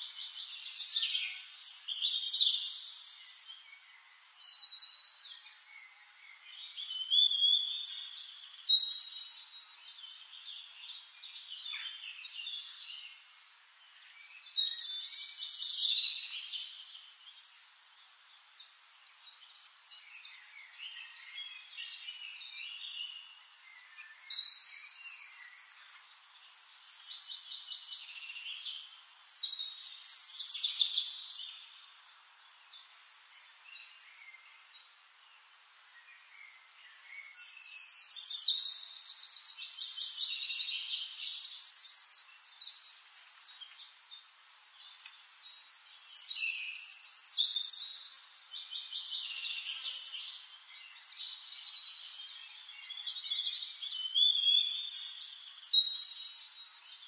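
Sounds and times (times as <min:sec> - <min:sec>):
birds singing chirps and trills: 0:00.0 - 0:57.0.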